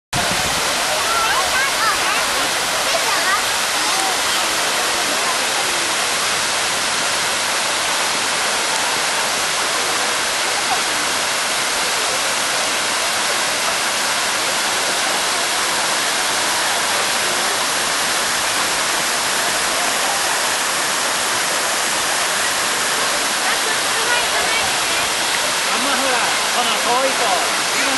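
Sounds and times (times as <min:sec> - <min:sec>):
fountain water splashing: 0:00.2 - 0:27.9.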